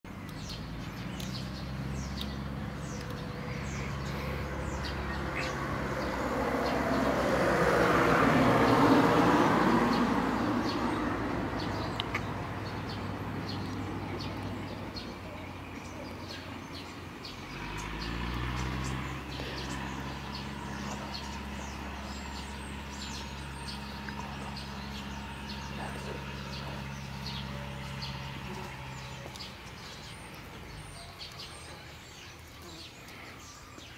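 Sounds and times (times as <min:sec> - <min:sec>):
low engine hum: 0:00.0 - 0:33.9
small birds chirping: 0:00.1 - 0:33.9
vehicle passing: 0:00.1 - 0:33.9.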